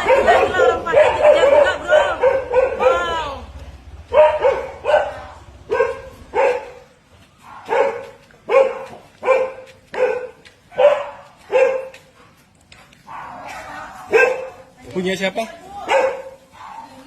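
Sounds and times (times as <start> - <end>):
dog barking: 0.0 - 3.2, 4.1 - 12.0, 13.0 - 14.7, 15.8 - 17.0.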